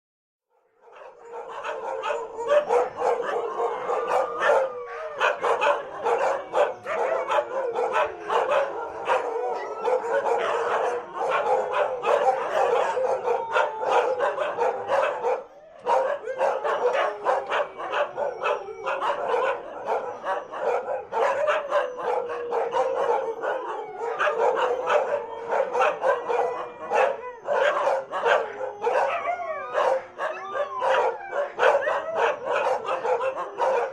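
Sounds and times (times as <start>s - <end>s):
dogs howling: 0.7s - 33.9s
dogs barking and yipping: 0.8s - 33.9s.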